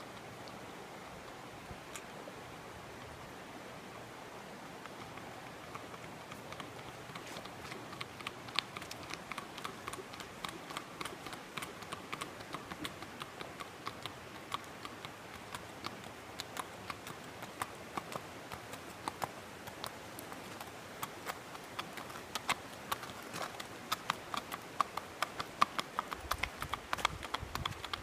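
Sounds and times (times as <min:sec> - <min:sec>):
hooves clip-clopping on asphalt: 0:04.6 - 0:28.0.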